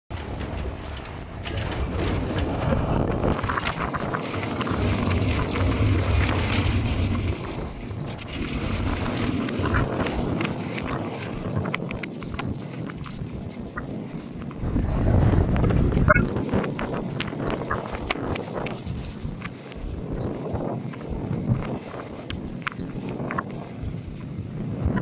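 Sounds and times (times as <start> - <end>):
rattles and clicks from car body: 0.1 - 14.6, 16.1 - 23.4
tram motor hum: 0.1 - 25.0
wheels rolling on rails: 0.1 - 25.0.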